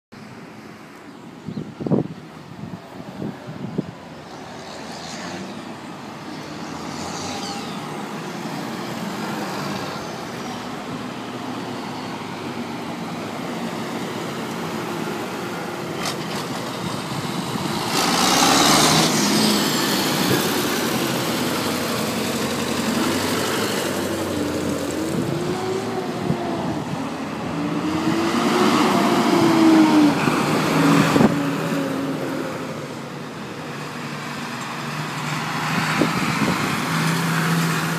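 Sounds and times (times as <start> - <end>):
tractor diesel engines passing: 0.2 - 37.9.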